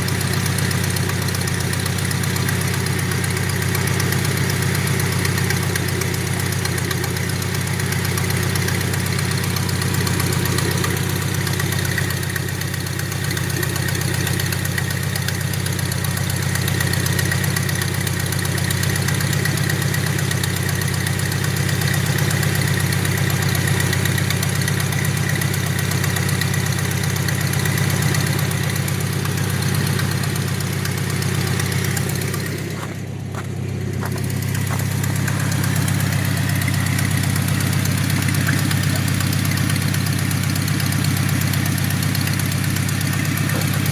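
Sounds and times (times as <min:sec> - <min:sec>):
pickup engine idling: 0:00.0 - 0:43.9.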